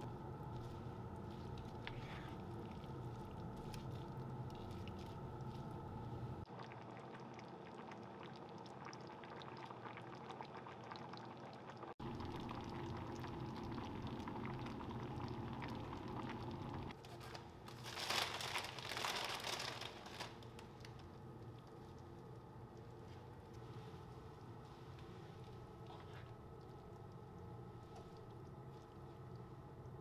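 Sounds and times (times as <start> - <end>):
curry simmering and bubbling: 0.0 - 17.0, 20.3 - 30.0.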